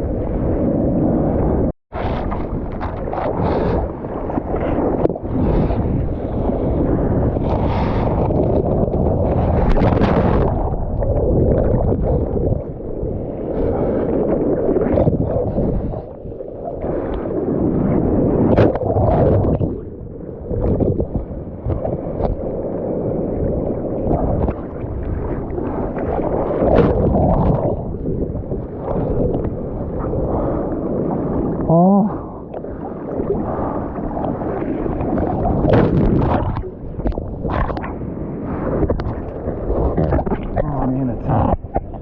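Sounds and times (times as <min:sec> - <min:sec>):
sea water sloshing and splashing: 0:00.0 - 0:42.0
wind buffeting microphone: 0:00.0 - 0:42.0.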